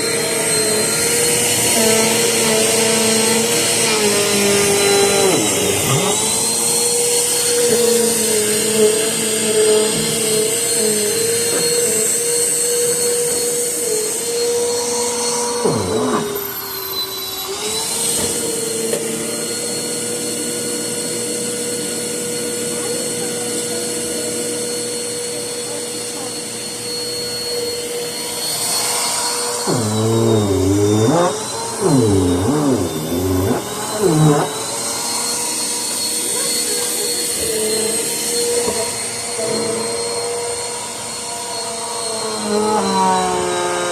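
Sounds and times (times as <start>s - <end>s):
vacuum cleaner motor whining: 0.0s - 43.9s.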